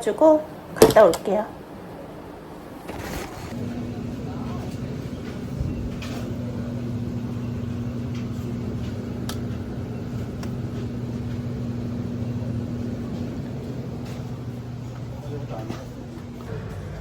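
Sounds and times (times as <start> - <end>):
low machine hum: 1.5 - 17.0.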